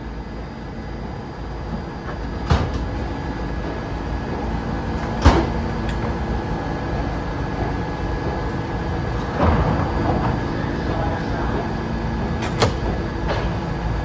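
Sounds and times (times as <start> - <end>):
subway train humming: 0.0 - 14.0.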